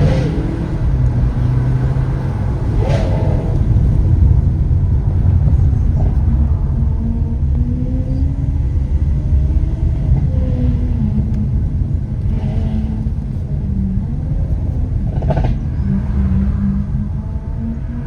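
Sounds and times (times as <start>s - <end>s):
car engine cruising: 0.0s - 18.0s.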